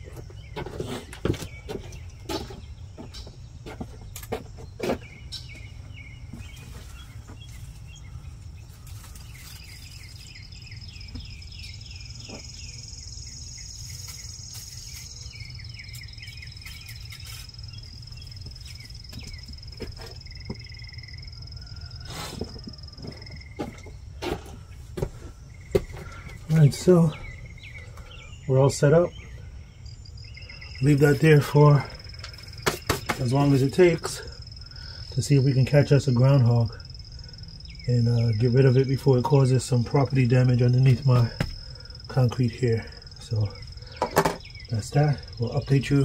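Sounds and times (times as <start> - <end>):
birds chirping: 0.0 - 46.0
insects droning: 0.0 - 46.0.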